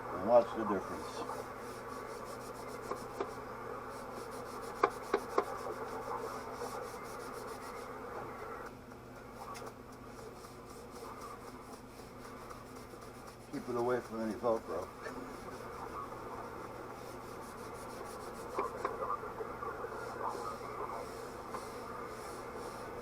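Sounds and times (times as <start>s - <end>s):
faint steady hum: 0.0s - 23.0s
hand rubbing a surface: 0.8s - 8.0s, 9.4s - 19.0s, 19.8s - 23.0s.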